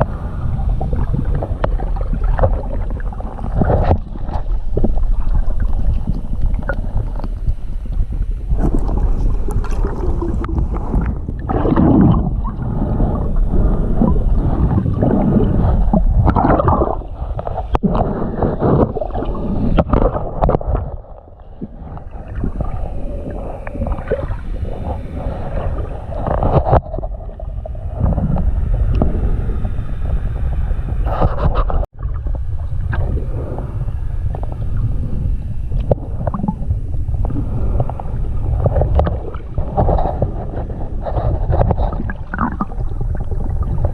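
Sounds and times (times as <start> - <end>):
water sloshing and gurgling: 0.0 - 43.9.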